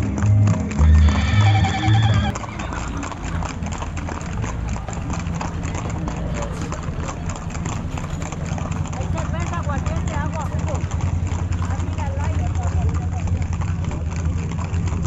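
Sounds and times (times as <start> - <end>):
horses' hooves clattering: 0.0 - 15.0.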